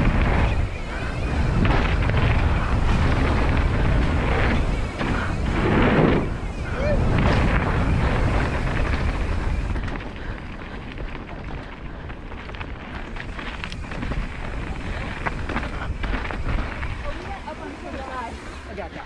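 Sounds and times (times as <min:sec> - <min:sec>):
bike tyres rolling on dirt: 0:00.0 - 0:19.0
wind buffeting microphone: 0:00.0 - 0:19.0.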